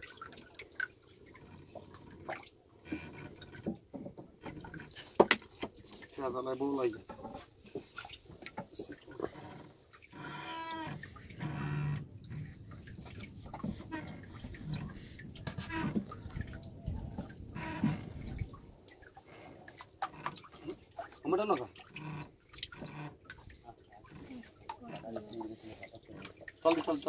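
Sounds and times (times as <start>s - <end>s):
small water splashes: 0.0s - 27.0s
water sloshing and dripping: 0.0s - 27.0s.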